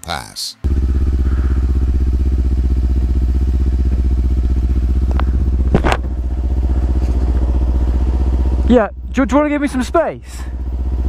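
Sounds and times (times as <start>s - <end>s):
motorcycle engine running: 0.6s - 11.0s.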